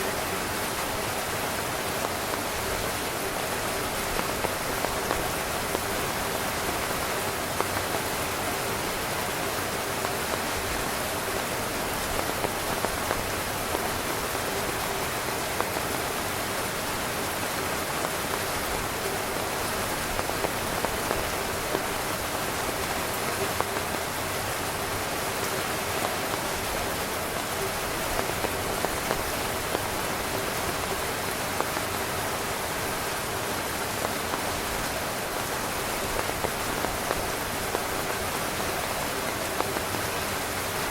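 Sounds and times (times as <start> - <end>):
heavy rain on tent fabric: 0.0 - 40.9.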